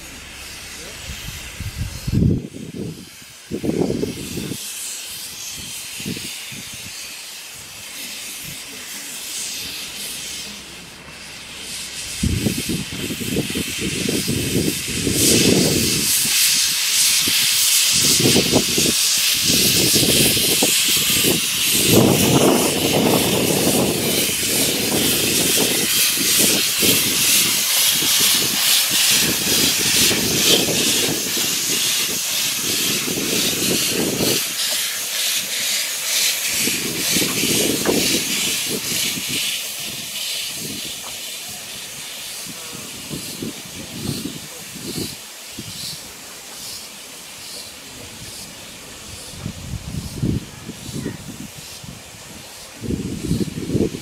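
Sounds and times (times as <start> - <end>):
locomotive exhaust beats: 0.0 - 50.2
loud steam hiss: 0.0 - 54.0.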